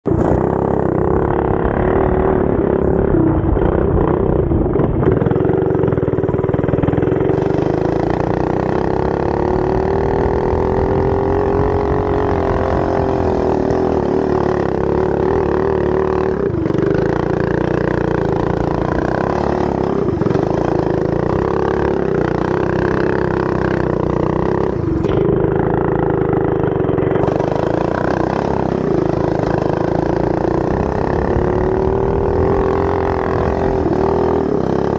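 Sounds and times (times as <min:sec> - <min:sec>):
go-kart engine running hard: 0:00.0 - 0:34.9.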